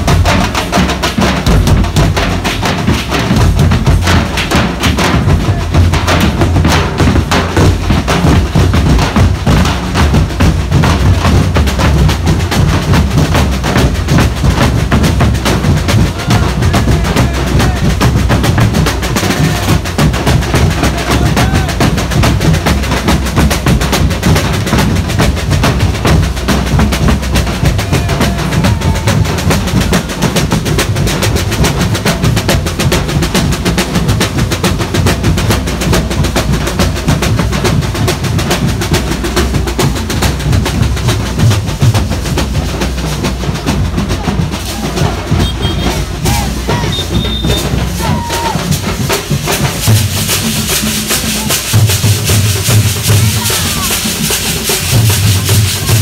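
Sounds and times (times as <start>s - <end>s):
drum band playing: 0.0s - 56.0s.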